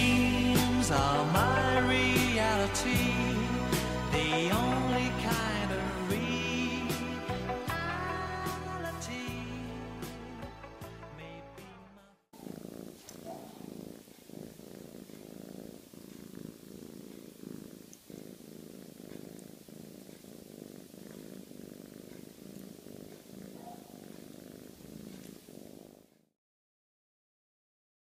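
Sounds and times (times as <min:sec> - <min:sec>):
kitten purring: 0:00.0 - 0:10.6, 0:12.4 - 0:26.3.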